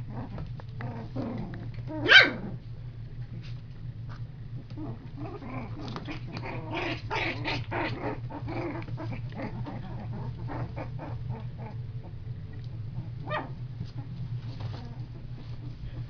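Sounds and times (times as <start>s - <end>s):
puppies growling and yipping: 0.0s - 2.6s, 4.5s - 16.0s.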